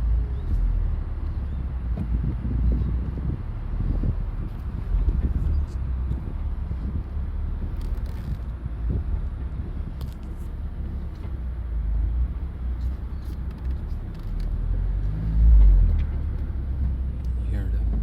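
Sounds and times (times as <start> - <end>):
drivetrain low rumble: 0.0 - 18.0.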